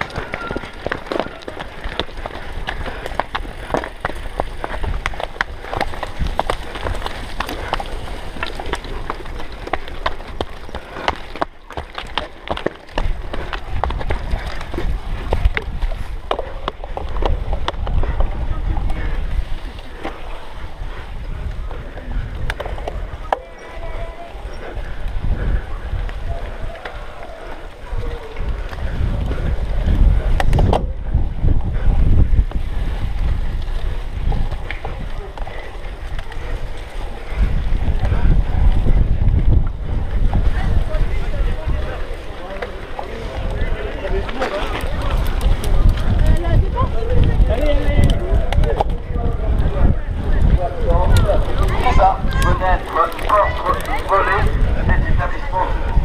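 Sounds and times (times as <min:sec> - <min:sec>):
sharp clicks and knocks from bike: 0:00.0 - 0:20.3, 0:20.9 - 0:23.8, 0:24.5 - 0:31.0, 0:32.3 - 0:40.5, 0:42.1 - 0:46.6, 0:47.2 - 0:54.6
bike rattling over dirt track: 0:00.0 - 0:56.0
wind buffeting microphone: 0:00.0 - 0:56.0.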